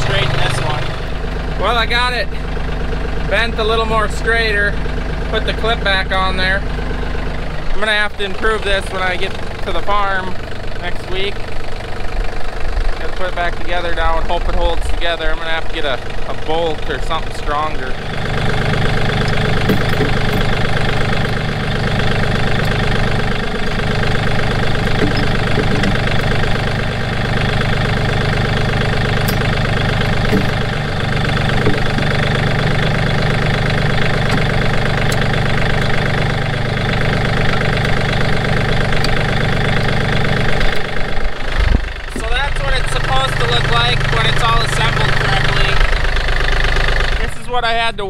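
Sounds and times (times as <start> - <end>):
tractor diesel engine idling: 0.0 - 48.0.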